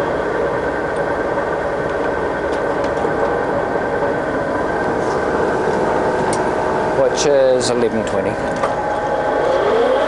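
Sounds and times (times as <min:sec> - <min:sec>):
lathe whirring and humming: 0:00.0 - 0:10.0.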